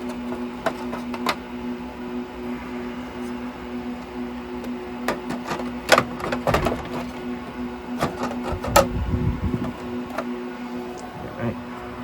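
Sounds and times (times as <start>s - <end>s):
steady hum: 0.0s - 12.0s
low handling rumble: 1.4s - 12.0s.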